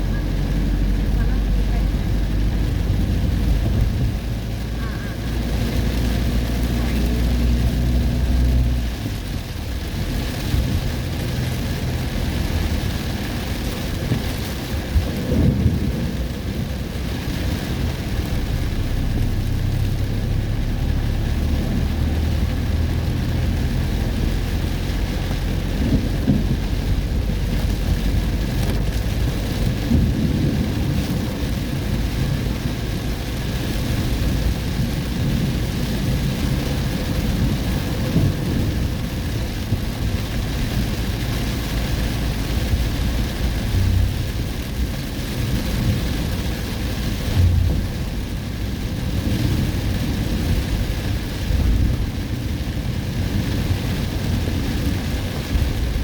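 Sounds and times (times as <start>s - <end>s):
deep continuous rumble: 0.0s - 56.0s
heavy rain pouring: 0.0s - 56.0s.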